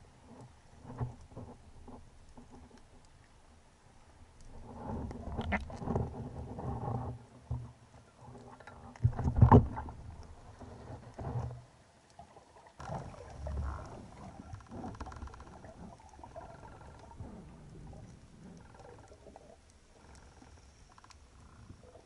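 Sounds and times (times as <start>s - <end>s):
underwater noise with faint crackling: 0.0s - 22.0s
water sloshing and splashing: 0.1s - 22.0s.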